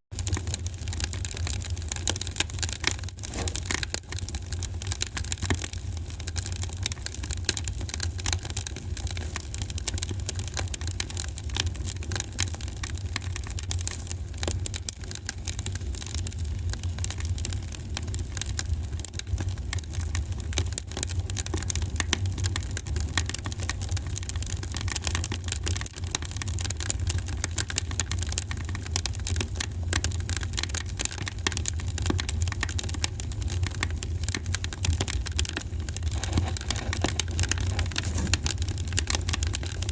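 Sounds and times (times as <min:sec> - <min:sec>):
low rumble of flames: 0:00.2 - 0:39.9
wood fire crackling: 0:00.2 - 0:39.9.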